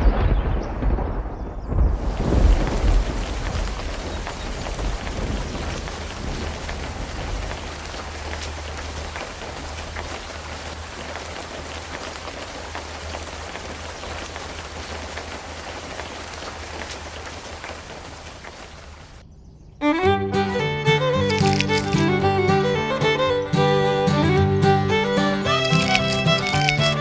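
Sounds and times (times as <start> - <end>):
steady rain falling: 2.0 - 19.1, 21.2 - 27.0.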